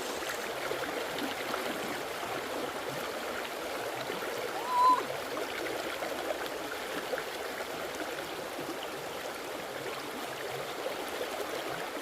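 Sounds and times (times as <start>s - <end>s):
stream babbling: 0.0s - 12.0s.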